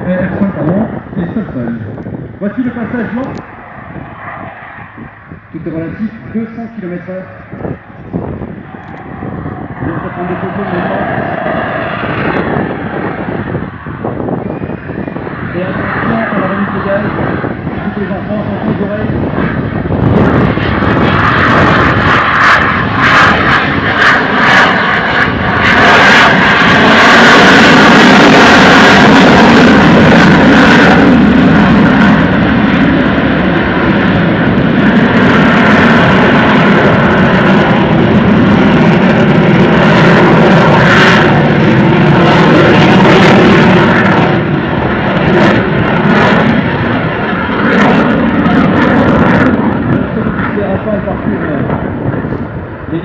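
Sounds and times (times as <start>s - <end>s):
loud jet roar: 0.0s - 53.0s.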